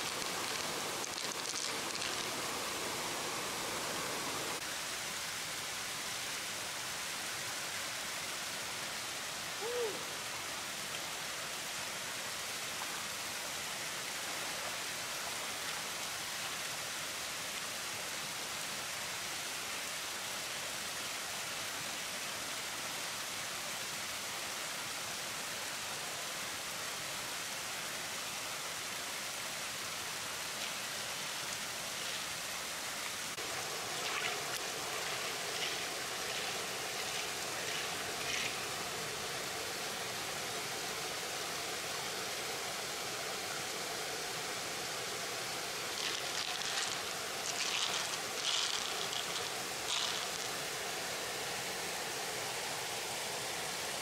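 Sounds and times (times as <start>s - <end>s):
stream and small waterfalls rushing: 0.0s - 54.0s.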